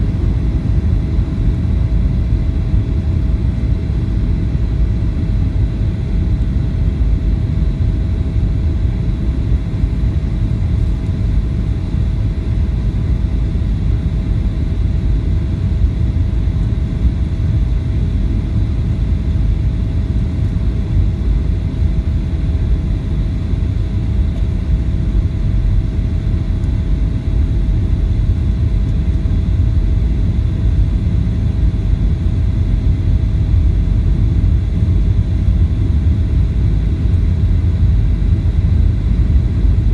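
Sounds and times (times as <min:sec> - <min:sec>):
airliner cabin engine rumble: 0:00.0 - 0:39.9
faint constant whine: 0:00.0 - 0:39.9.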